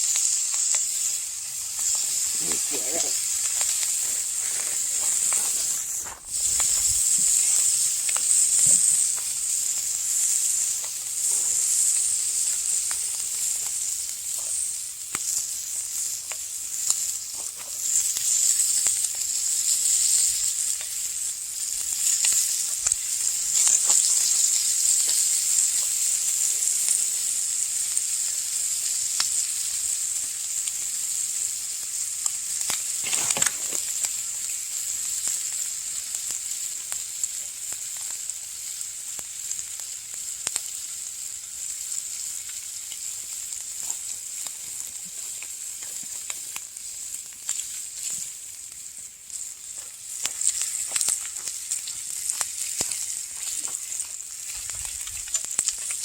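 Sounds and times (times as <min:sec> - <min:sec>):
bacon sizzling in a pan: 0:00.0 - 0:56.0.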